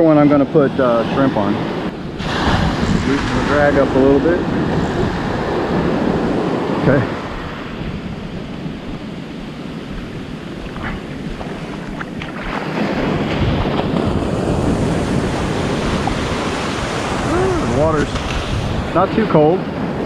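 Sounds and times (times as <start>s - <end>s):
wind buffeting microphone: 0.0s - 20.0s
small waves breaking on sand: 0.2s - 20.0s.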